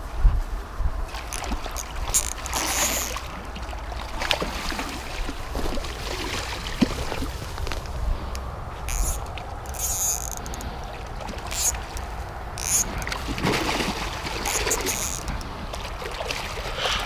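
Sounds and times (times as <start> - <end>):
steady low rumble: 0.0 - 14.5
water sloshing and splashing: 1.1 - 17.0.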